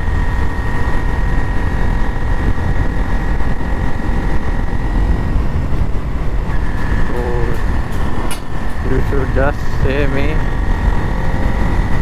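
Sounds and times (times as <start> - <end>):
motorcycle engine: 0.0 - 12.0
road noise: 0.0 - 12.0
steady high whine: 0.0 - 12.0
wind rumble on microphone: 0.0 - 12.0.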